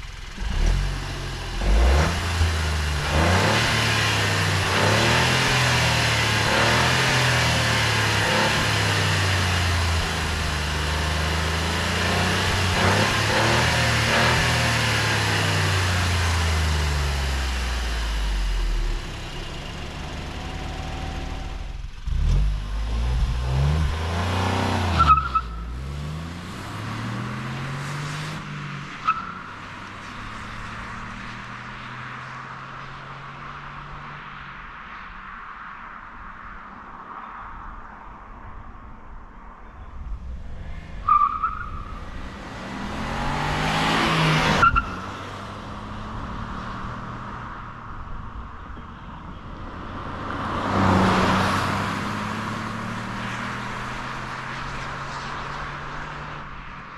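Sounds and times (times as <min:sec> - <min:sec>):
car engine revving: 0:00.0 - 0:34.1, 0:40.2 - 0:56.9.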